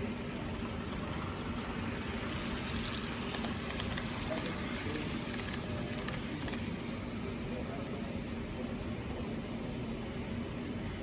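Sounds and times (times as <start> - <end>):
model train rumbling on rails: 0.0 - 9.0
faint hum: 0.0 - 11.0.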